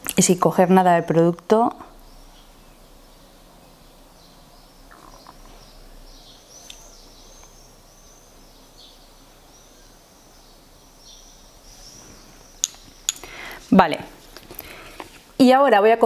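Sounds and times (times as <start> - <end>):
faint bird chirping: 0.2 - 16.0.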